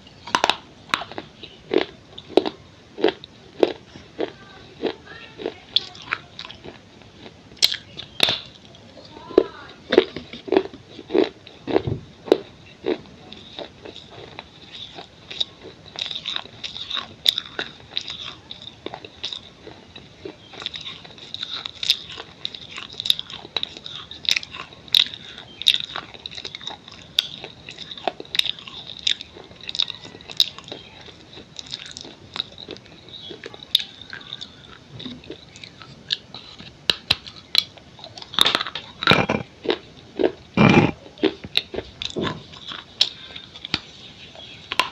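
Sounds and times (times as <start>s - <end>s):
person chewing crunchy clay: 0.0s - 8.8s, 9.4s - 44.9s.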